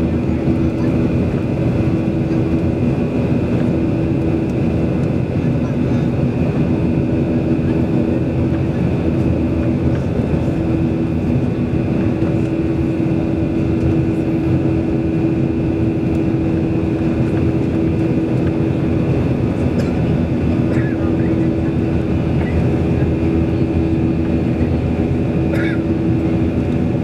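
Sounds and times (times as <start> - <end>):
airliner cabin engine drone: 0.0 - 27.0.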